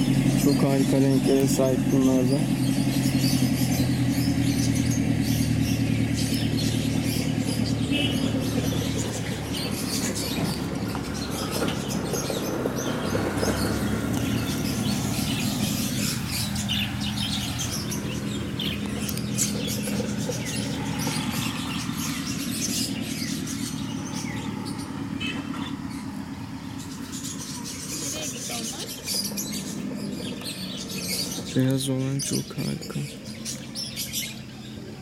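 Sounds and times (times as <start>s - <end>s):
parrots chirping and calling: 0.0s - 35.0s.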